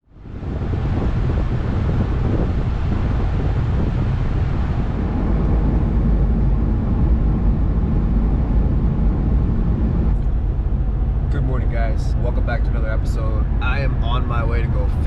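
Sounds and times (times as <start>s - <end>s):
vehicle cabin road rumble: 0.0s - 15.0s.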